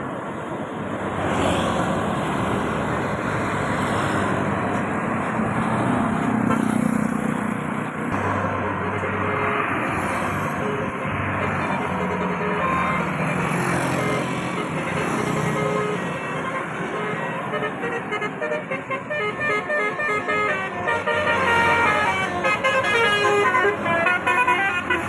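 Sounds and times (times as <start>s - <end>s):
vehicles passing by: 0.0s - 25.0s.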